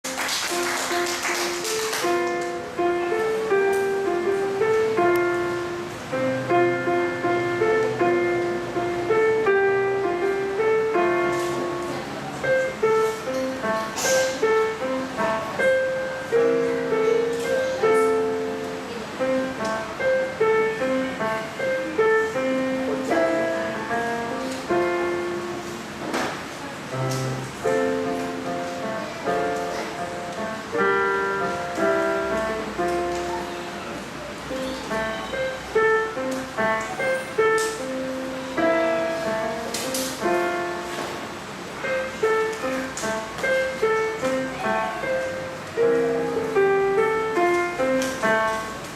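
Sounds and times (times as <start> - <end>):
solo piano piece: 0.0 - 48.9.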